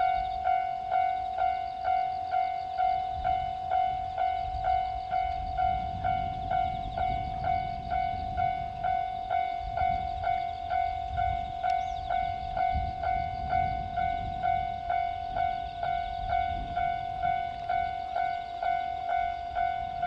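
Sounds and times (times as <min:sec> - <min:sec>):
level crossing alarm ringing: 0:00.0 - 0:20.0.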